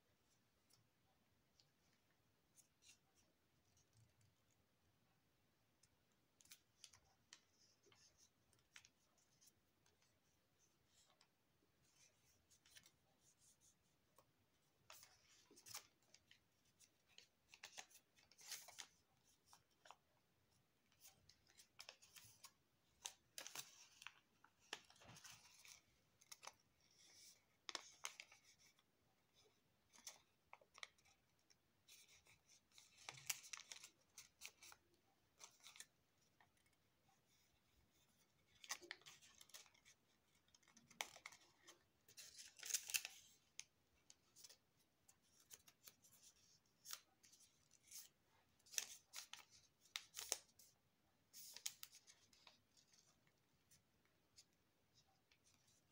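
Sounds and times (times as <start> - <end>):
paper rustling and crinkling: 6.4 - 20.1, 20.9 - 55.9.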